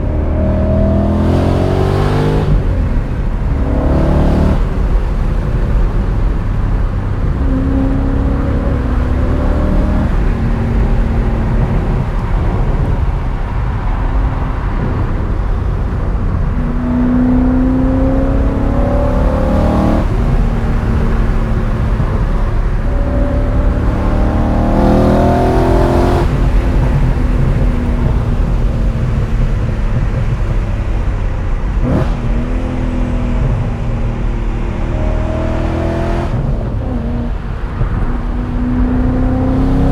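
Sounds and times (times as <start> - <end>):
car engine revving: 0.0 - 39.9
exhaust and road drone: 0.0 - 39.9.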